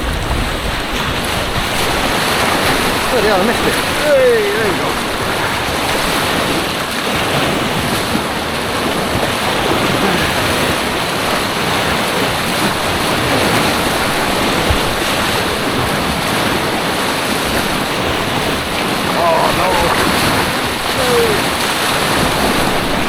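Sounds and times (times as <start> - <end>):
white-water rapids rushing: 0.0 - 23.0.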